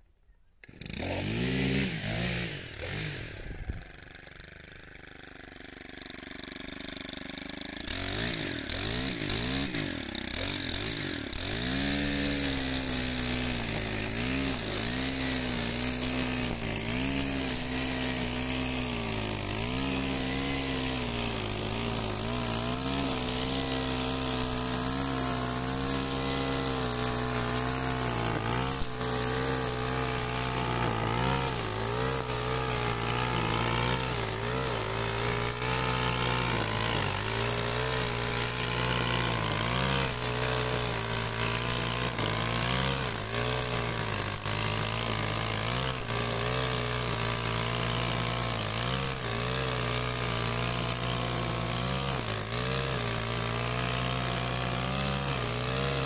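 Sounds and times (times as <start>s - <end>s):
brush cutter engine high revs: 0.6s - 56.0s
nylon line cutting grass: 0.6s - 56.0s.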